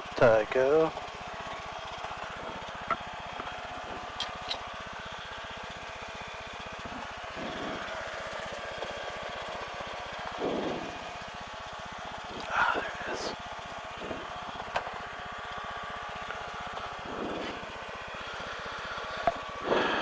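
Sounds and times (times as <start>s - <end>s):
plane engine idling: 0.0s - 20.0s.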